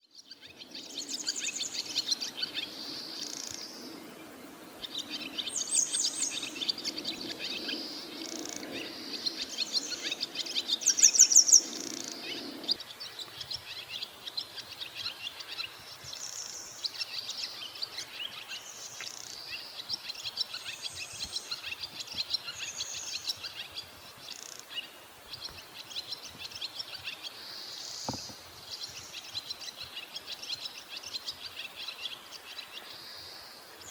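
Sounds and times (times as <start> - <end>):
swallows twittering: 0.0 - 33.9.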